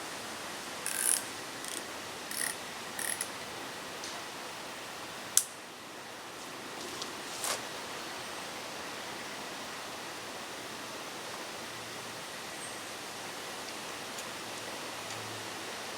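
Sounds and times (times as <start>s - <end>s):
steady background hiss: 0.0s - 15.9s.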